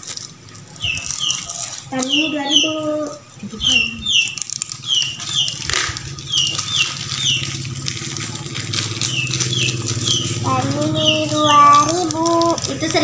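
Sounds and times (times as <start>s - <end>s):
low motor hum: 0.0s - 13.0s
bird chirping: 0.8s - 12.6s.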